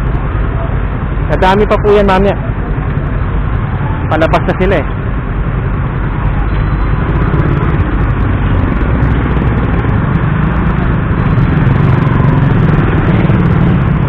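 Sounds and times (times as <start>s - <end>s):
heavy traffic: 0.0s - 14.0s
motorcycle engine and road rumble: 0.0s - 14.0s.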